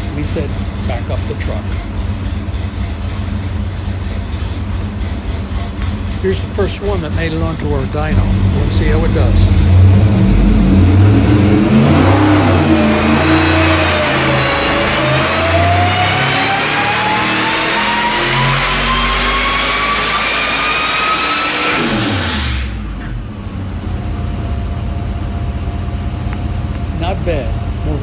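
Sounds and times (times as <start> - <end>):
supercharged engine revving: 0.0 - 24.6
supercharger whine: 0.0 - 28.0.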